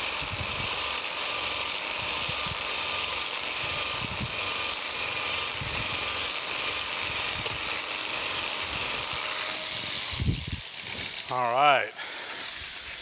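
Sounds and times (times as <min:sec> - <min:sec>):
power scraper scraping metal: 0:00.0 - 0:13.0.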